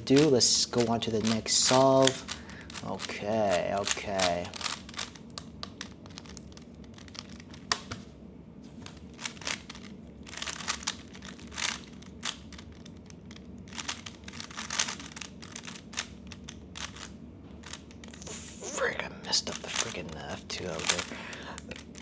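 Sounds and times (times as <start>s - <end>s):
puzzle cube layer turns clicking: 0.0s - 8.0s, 8.8s - 18.8s, 19.4s - 22.0s.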